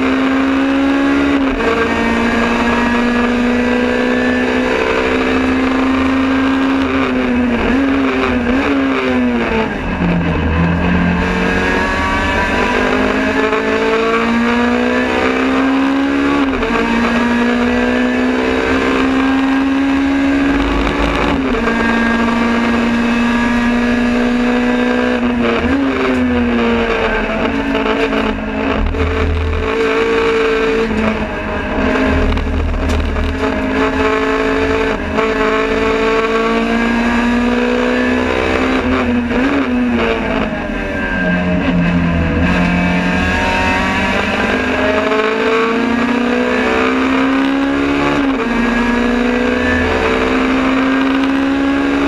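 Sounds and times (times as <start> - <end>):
race car engine revving: 0.0 - 52.0
road and wind noise: 0.0 - 52.0.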